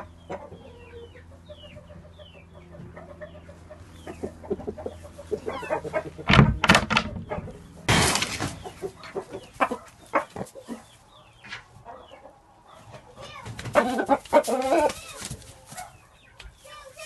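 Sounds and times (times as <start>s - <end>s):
rooster clucking: 0.0s - 15.7s.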